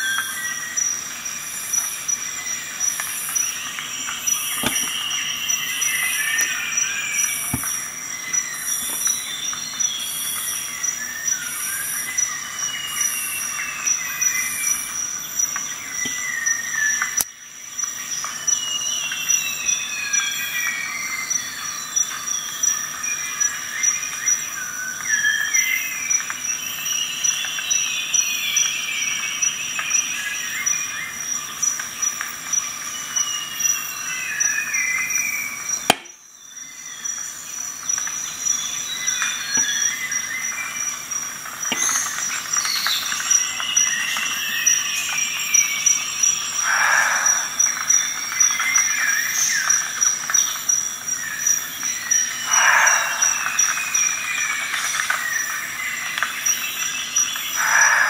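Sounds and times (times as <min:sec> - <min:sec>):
birds singing: 0:00.0 - 0:58.0
high-pitched insect trill: 0:00.0 - 0:58.0.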